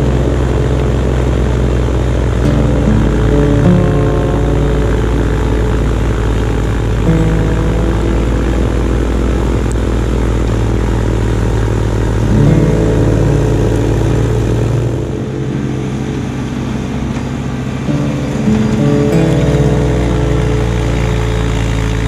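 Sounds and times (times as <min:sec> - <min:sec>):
snow blower through wet snow: 0:00.0 - 0:22.0
tractor diesel engine running: 0:00.0 - 0:22.0.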